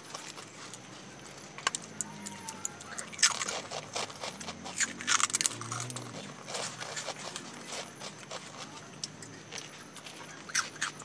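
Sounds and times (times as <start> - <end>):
crunching crisp papads: 0.0 - 11.0.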